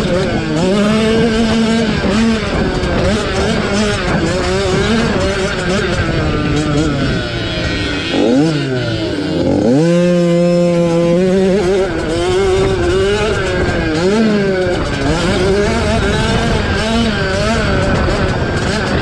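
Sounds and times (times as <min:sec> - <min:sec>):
two-stroke motocross bikes racing: 0:00.0 - 0:19.0.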